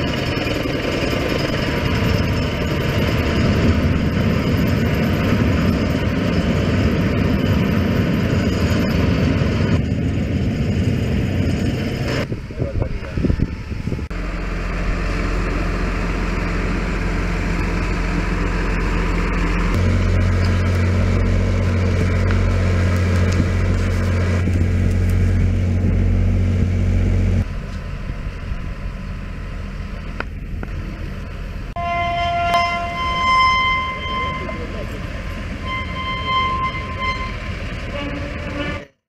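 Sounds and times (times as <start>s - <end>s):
machine engine humming: 0.0s - 38.8s.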